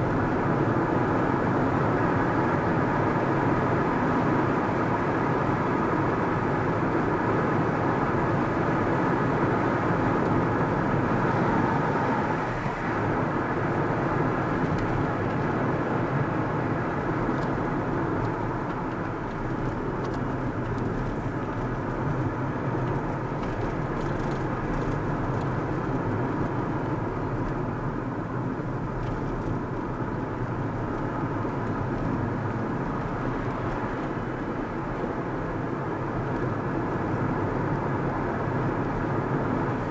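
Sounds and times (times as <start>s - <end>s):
car engine and tyre road noise: 0.0s - 39.9s.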